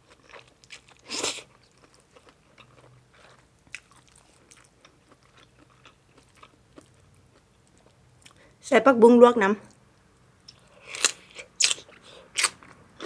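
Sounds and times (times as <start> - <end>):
person chewing food: 0.0 - 8.4, 10.5 - 12.8.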